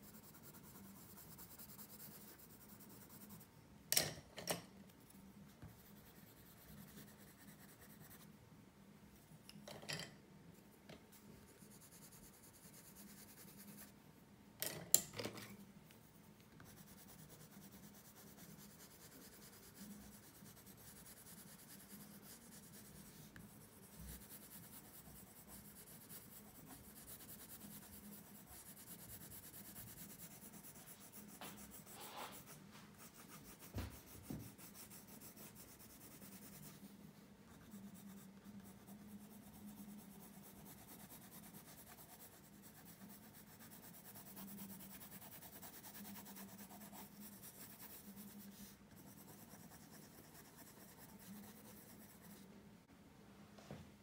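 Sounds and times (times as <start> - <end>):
pencil scratching on paper: 0.0 - 3.5, 5.6 - 8.3, 11.2 - 14.0, 16.6 - 52.4.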